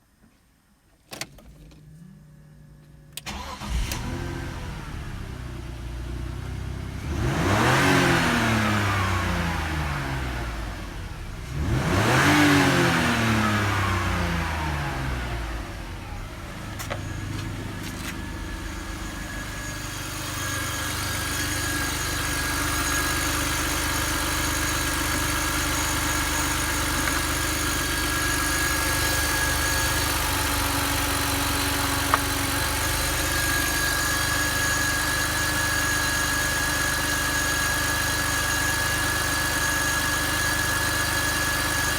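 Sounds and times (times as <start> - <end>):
car engine starting: 1.2 - 41.9
car engine idling: 1.5 - 12.0, 13.0 - 41.9
engine revving: 3.2 - 41.9.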